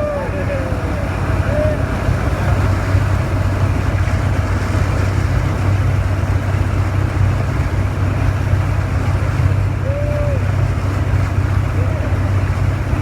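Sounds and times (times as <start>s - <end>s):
motorboat engine humming: 0.0s - 13.0s
water rushing past: 0.0s - 13.0s.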